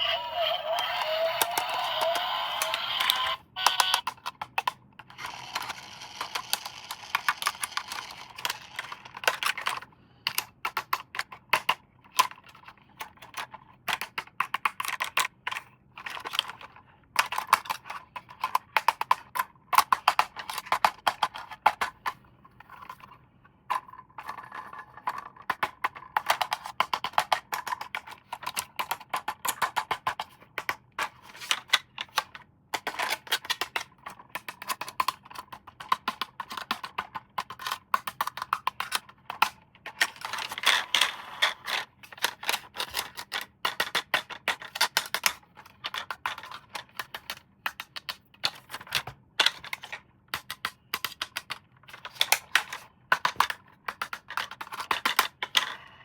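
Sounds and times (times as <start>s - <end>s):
plastic toy clicking: 0.0s - 22.2s, 25.0s - 55.8s.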